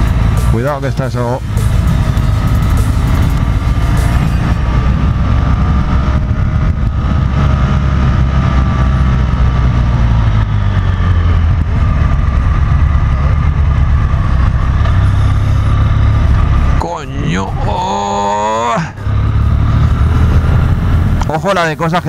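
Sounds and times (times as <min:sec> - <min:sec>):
motorcycle engine running: 0:00.0 - 0:22.0
wind noise: 0:00.0 - 0:22.0.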